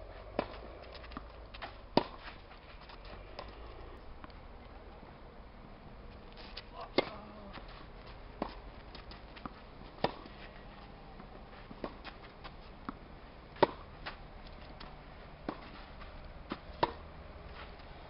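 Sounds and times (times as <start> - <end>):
rackets striking tennis ball: 0.2 - 4.0, 6.3 - 17.9.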